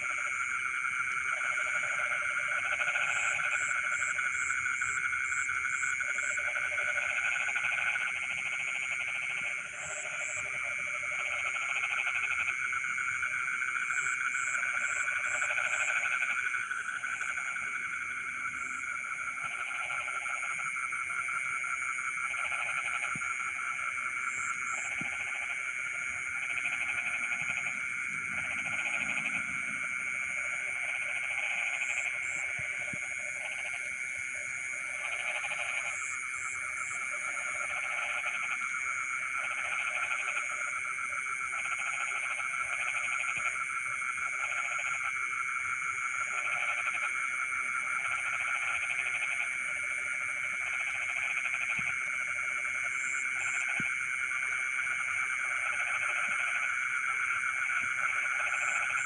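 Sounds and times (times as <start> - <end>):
frog chorus: 0.0 - 59.0
low frog croaking: 0.0 - 59.0.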